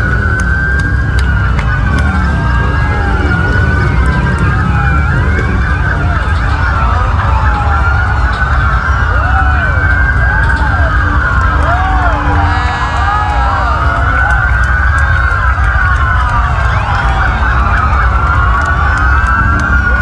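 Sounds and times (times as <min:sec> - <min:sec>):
low rumble: 0:00.0 - 0:20.0
police sirens wailing: 0:00.0 - 0:20.0.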